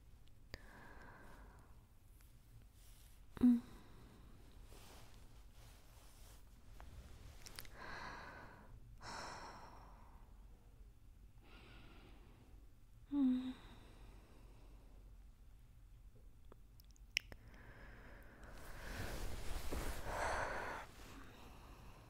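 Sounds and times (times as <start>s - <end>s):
woman breathing softly: 0.5s - 2.0s, 2.7s - 10.6s, 11.4s - 15.2s, 17.4s - 22.0s.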